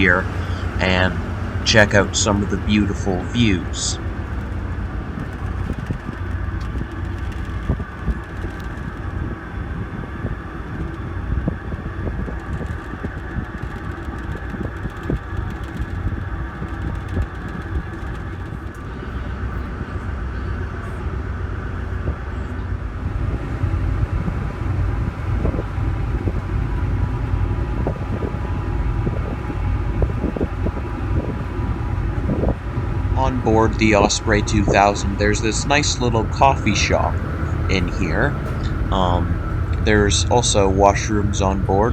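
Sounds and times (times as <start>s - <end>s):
ship engines droning: 0.0s - 41.9s.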